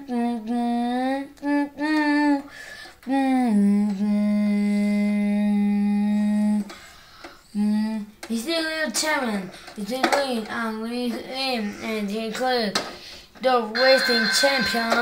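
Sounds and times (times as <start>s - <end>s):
child singing wordless notes: 0.0s - 6.8s, 7.5s - 12.7s.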